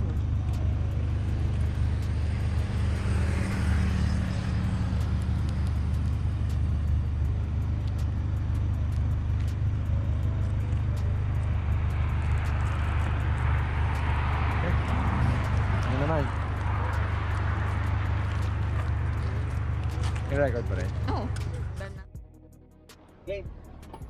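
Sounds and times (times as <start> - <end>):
car engine running: 0.0 - 22.5
light fast ticking: 0.1 - 21.6.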